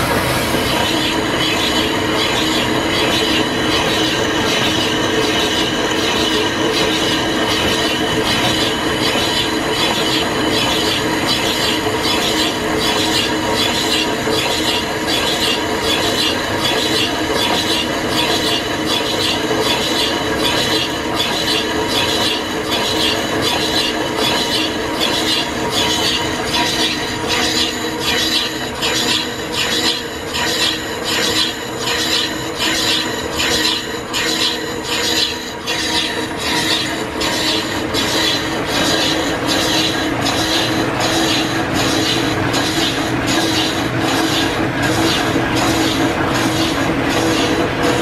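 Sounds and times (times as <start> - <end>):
lathe tool scraping metal: 0.0 - 48.0
running belts and shafting: 0.0 - 48.0.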